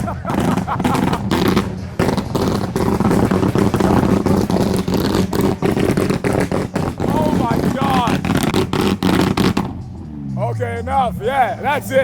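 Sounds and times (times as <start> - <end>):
car engine revving hard: 0.0 - 11.6.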